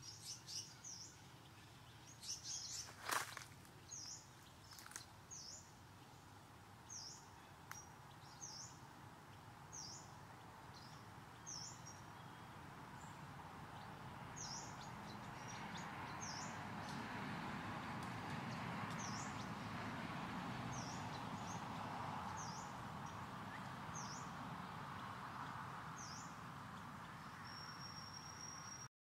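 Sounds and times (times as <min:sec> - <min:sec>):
bird chirping: 0:00.0 - 0:17.1, 0:20.7 - 0:28.9.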